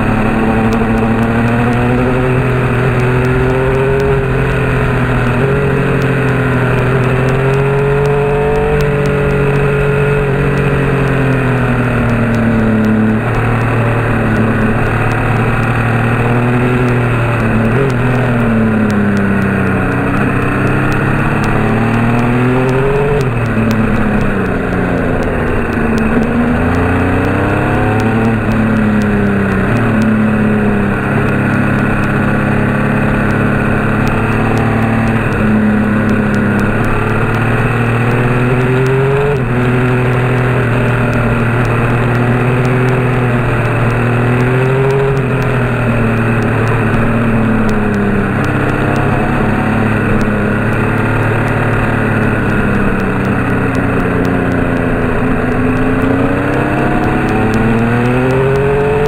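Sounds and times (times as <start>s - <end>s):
road noise: 0.0s - 59.0s
vehicle engine revving: 0.0s - 59.0s.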